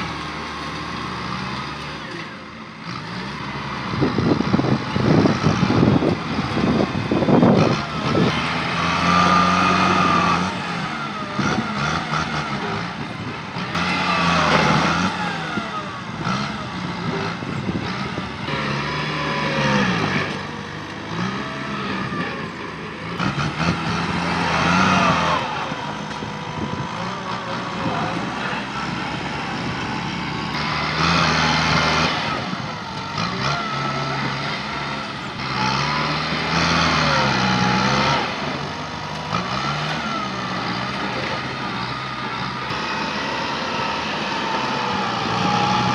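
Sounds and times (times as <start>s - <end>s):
diesel tractor engine working hard: 0.0s - 45.9s.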